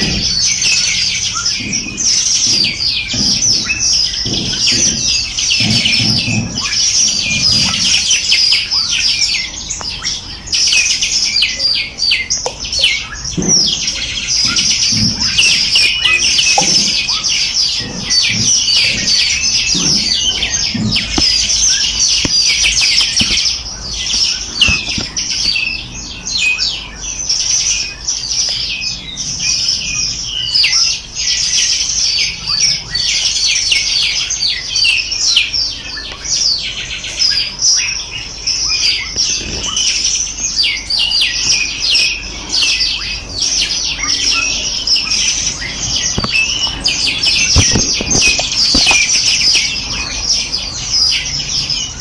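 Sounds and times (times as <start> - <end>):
small birds chirping and trilling: 0.0 - 52.0.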